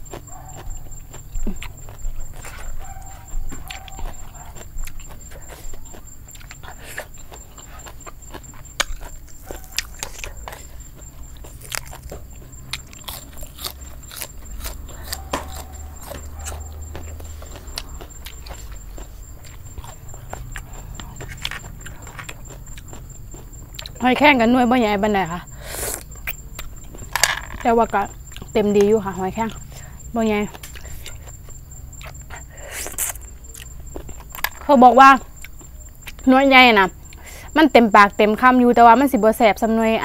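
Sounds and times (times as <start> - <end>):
person chewing: 0.0 - 24.4, 25.5 - 36.2
food crunching: 0.0 - 36.3.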